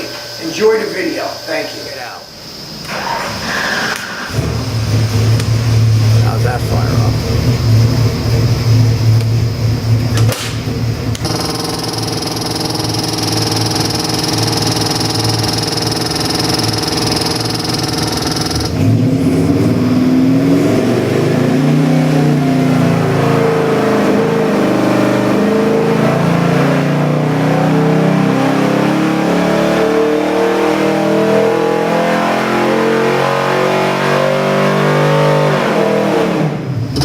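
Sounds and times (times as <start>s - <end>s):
engine revving: 2.8s - 37.0s.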